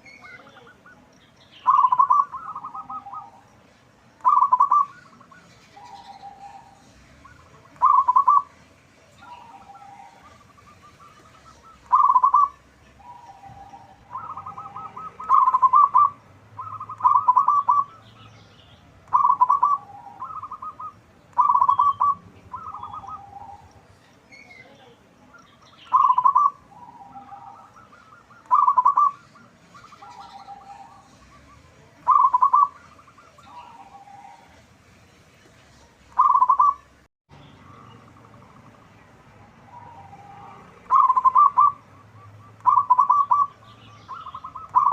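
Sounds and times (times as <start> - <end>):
dove cooing: 1.6 - 3.5, 4.2 - 8.6, 9.2 - 18.2, 19.0 - 23.9, 25.8 - 34.7, 36.2 - 36.9, 37.7 - 44.9.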